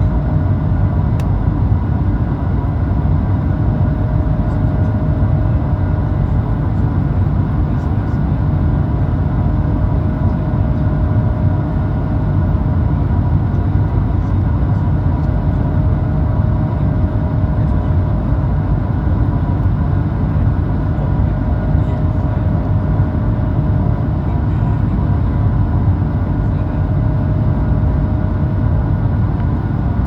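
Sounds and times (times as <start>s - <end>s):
aircraft engines rumbling: 0.0s - 30.0s.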